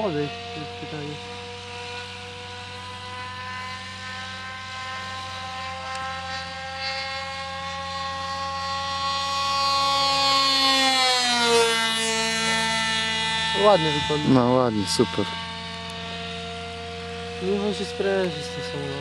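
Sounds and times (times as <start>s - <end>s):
model aircraft engine high whine: 0.0s - 19.0s.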